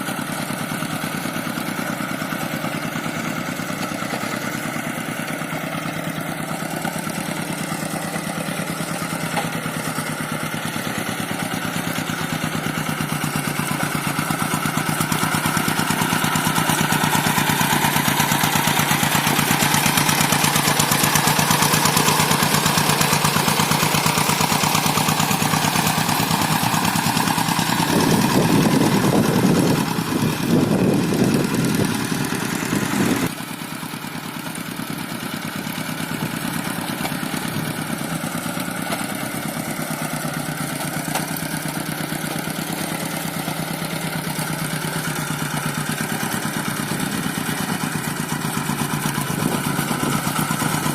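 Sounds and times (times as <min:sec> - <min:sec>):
tractor engine labouring: 0:00.0 - 0:50.9.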